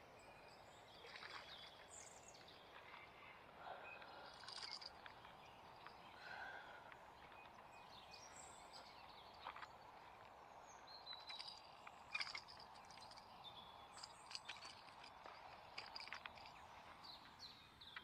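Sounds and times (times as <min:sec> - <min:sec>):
birdsong chirps and whistles: 0:00.0 - 0:18.0.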